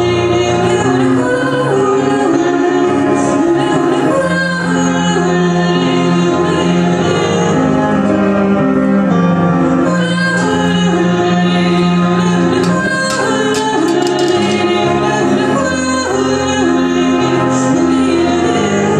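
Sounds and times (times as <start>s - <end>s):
woman singing: 0.0s - 8.6s, 9.8s - 18.9s
keyboard: 0.0s - 18.9s.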